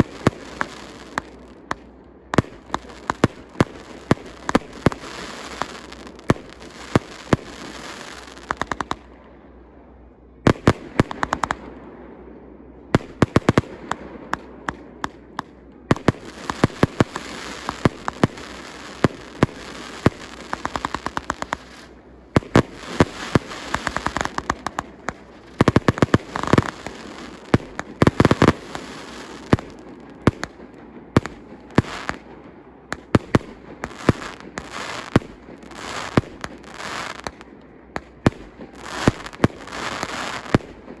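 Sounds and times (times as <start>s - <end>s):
fireworks bangs and crackles: 0.0s - 9.3s, 10.3s - 12.2s, 12.8s - 41.0s.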